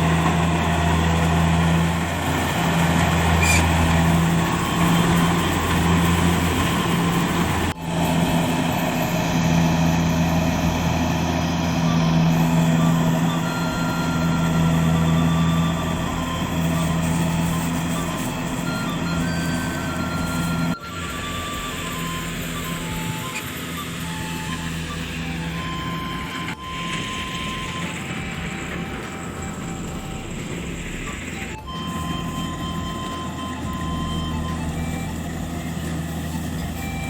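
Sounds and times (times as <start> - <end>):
combine harvester engine droning: 0.0 - 37.0.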